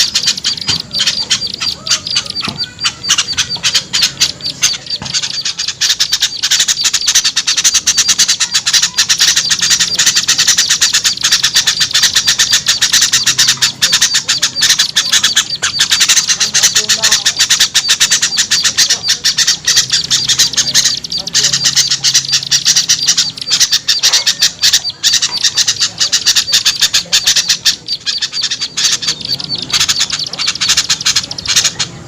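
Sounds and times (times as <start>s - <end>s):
songbirds chattering chorus: 0.0s - 32.0s.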